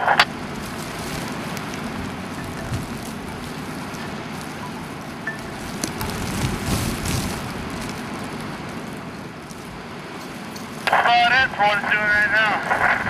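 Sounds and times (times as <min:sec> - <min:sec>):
wind rushing across microphone: 0:00.0 - 0:13.0.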